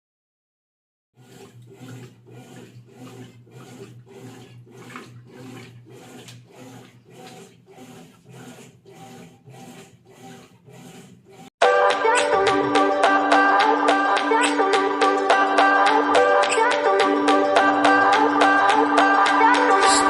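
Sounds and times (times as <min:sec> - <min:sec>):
washing machine churning: 0:01.1 - 0:20.0
washing machine motor hum: 0:01.1 - 0:20.0.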